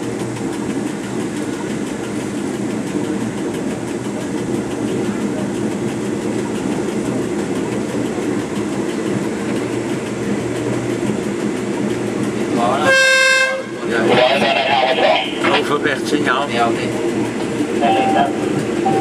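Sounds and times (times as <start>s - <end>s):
diesel engine rumble: 0.0s - 19.0s
train wheels on rails: 0.0s - 19.0s.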